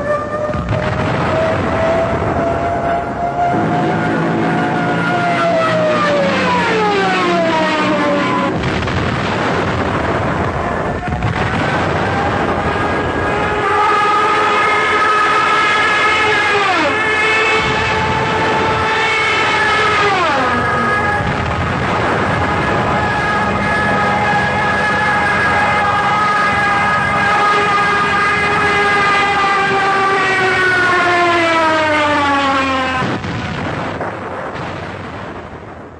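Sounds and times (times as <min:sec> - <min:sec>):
dive bomber siren wailing: 0:00.0 - 0:33.5.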